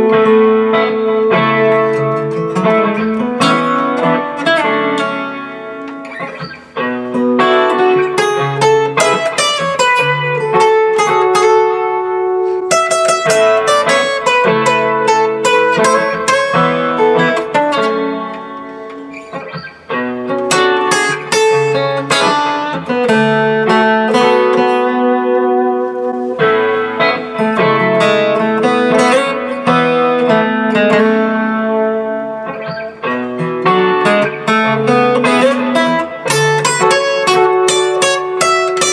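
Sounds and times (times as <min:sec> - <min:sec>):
acoustic guitar flatpicking: 0:00.0 - 0:38.9.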